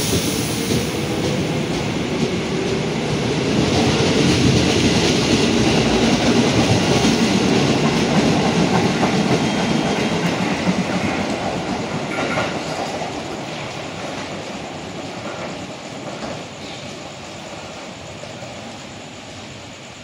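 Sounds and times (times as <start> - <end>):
electric train passing on rails: 0.0 - 20.0.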